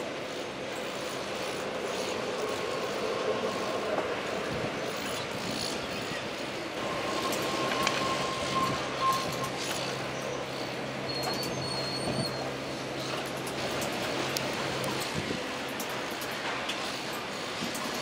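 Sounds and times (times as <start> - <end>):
construction machinery engine drone: 0.0 - 18.0
thin steady whine: 0.0 - 18.0.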